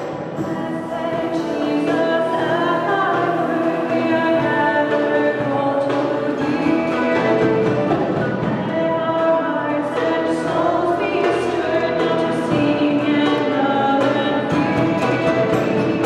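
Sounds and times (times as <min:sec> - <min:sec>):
instrumental accompaniment: 0:00.0 - 0:16.0
many voices singing a hymn: 0:00.0 - 0:16.0.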